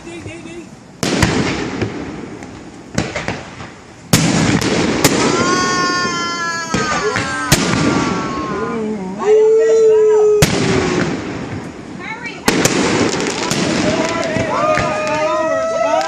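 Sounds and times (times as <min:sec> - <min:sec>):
firework bangs: 0:00.0 - 0:08.8, 0:10.2 - 0:16.0
fireworks crackle and rumble: 0:00.0 - 0:16.0.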